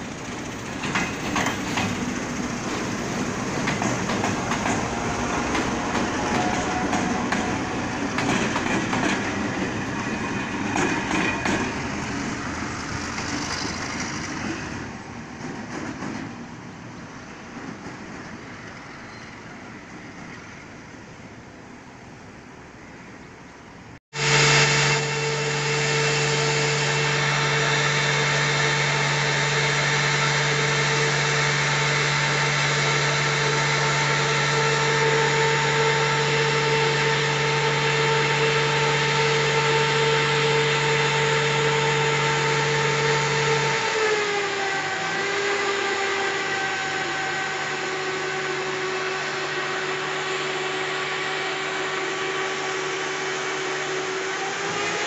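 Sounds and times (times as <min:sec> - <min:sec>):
crane engine whining drone: 0:00.0 - 0:15.4, 0:16.3 - 0:55.0.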